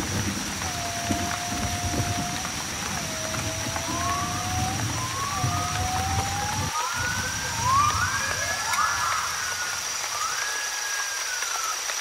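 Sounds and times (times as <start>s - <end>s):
heavy rain hiss: 0.0s - 12.0s
insect drone: 0.0s - 12.0s
whistle-like animal calls: 0.6s - 12.0s.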